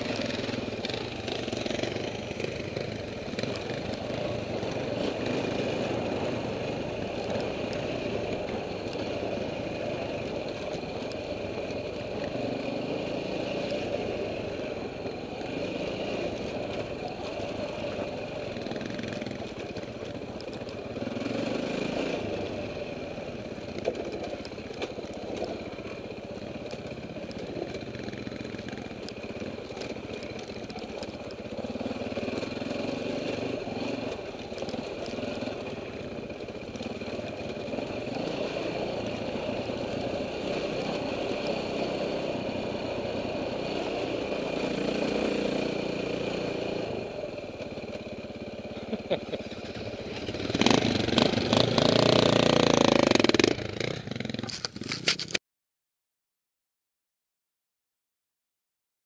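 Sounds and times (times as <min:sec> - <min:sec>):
dirt bike engine running: 0:00.0 - 0:55.4.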